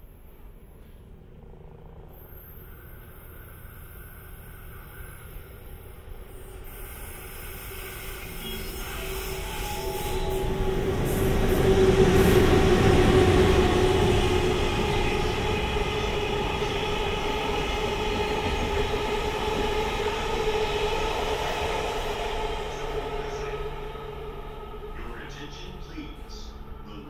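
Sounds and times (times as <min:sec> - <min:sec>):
locomotive whine: 0:00.0 - 0:27.0
freight train rumbling past: 0:00.2 - 0:27.0.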